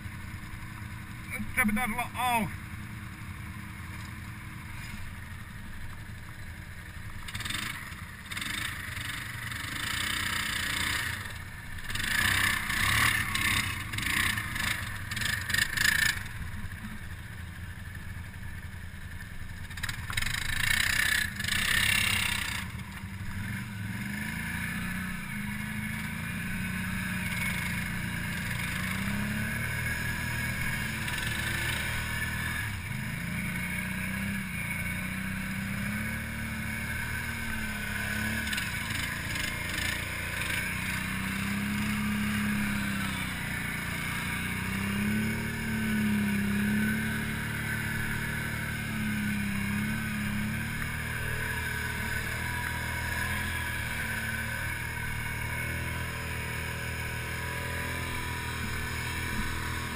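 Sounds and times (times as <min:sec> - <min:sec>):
quad engine revving under load: 0:07.2 - 0:16.8, 0:19.8 - 0:59.9.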